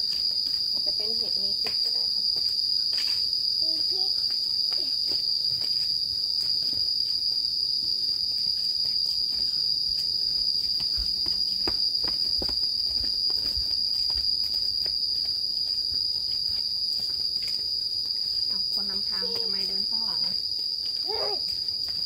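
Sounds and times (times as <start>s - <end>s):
faint footsteps on trail: 0.0s - 22.0s
insects droning: 0.0s - 22.0s.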